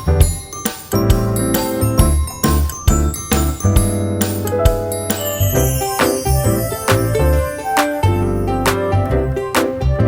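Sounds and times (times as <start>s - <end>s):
upbeat music with keyboard and drums: 0.0s - 10.0s.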